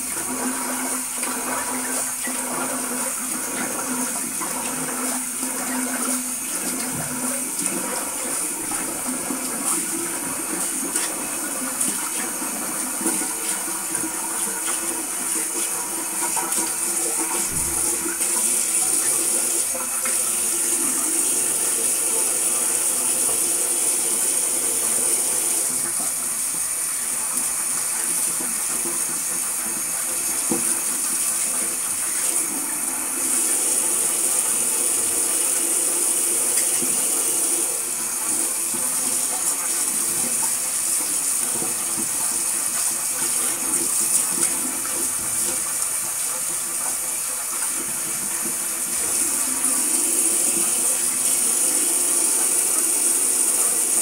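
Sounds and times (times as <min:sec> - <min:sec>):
water running: 0:00.0 - 0:54.0.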